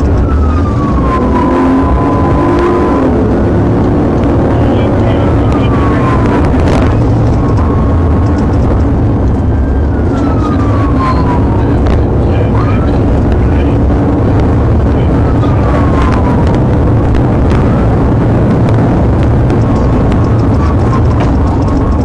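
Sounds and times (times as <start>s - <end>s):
car engine and road noise: 0.0s - 22.0s
faint siren wail: 0.0s - 22.0s.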